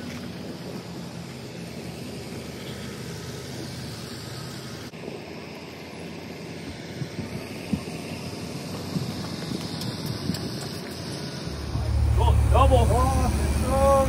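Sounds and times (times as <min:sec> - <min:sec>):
moving vehicle rumble and hiss: 0:00.0 - 0:14.0.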